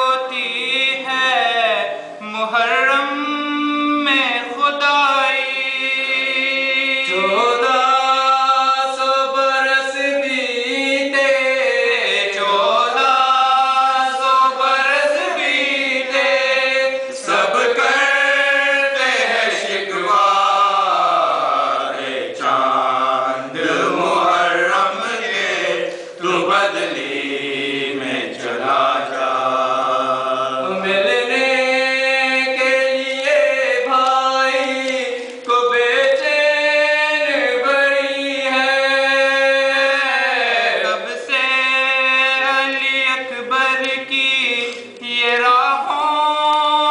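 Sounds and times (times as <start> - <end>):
men chanting in unison: 0.0 - 46.9.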